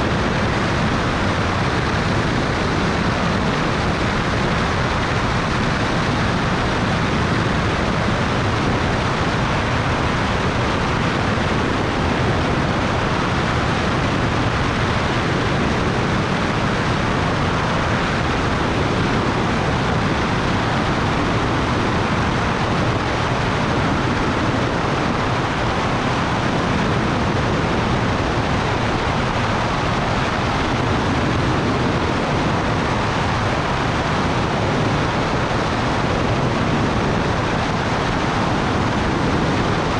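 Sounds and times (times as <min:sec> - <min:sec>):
airplane engine and propeller drone: 0:00.0 - 0:39.9
rushing wind: 0:00.0 - 0:39.9.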